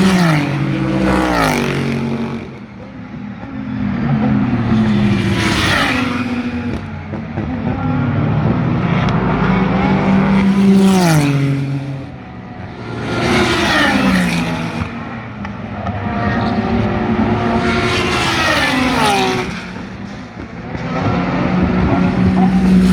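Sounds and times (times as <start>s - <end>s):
race cars passing at speed: 0.0s - 22.9s.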